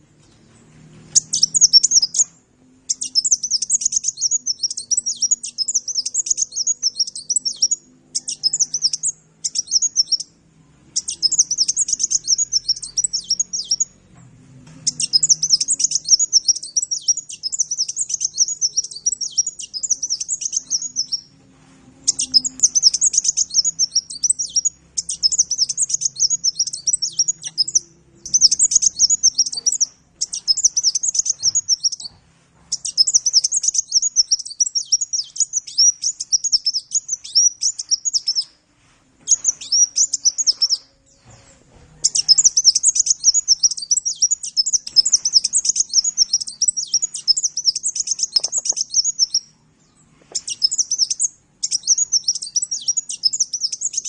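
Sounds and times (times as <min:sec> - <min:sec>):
sunbird twittering song: 0:00.0 - 0:14.0, 0:14.8 - 0:21.3, 0:22.0 - 0:38.6, 0:39.2 - 0:54.0.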